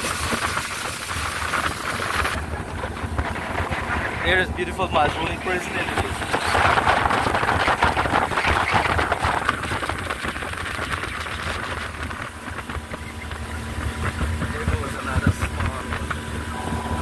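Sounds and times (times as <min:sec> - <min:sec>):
boat motor running: 0:00.0 - 0:17.0
water rushing past hull: 0:00.0 - 0:17.0
wind buffeting microphone: 0:00.0 - 0:17.0.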